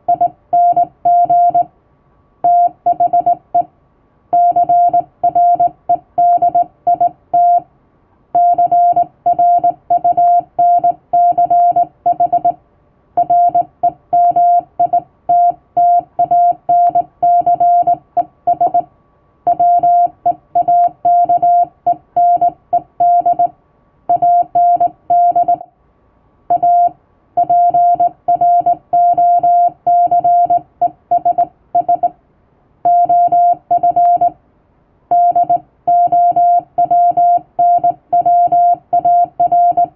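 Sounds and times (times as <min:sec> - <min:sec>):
morse code beeps: 0:00.0 - 0:01.7, 0:02.4 - 0:03.7, 0:04.4 - 0:07.6, 0:08.4 - 0:12.6, 0:13.2 - 0:18.9, 0:19.5 - 0:23.5, 0:24.1 - 0:25.6, 0:26.5 - 0:32.1, 0:32.9 - 0:34.4, 0:35.1 - 0:39.9.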